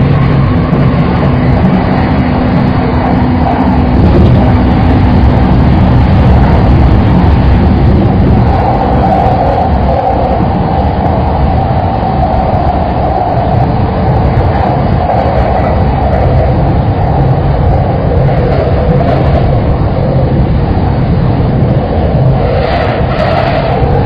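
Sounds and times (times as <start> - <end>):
electric train running: 0.0 - 24.0.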